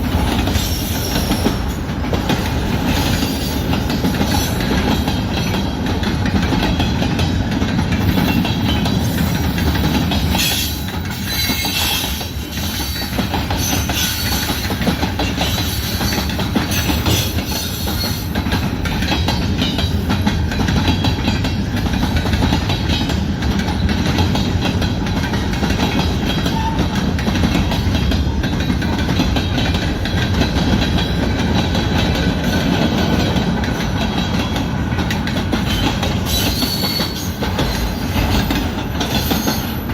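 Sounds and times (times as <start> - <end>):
freight train wheels on rails: 0.0 - 39.9.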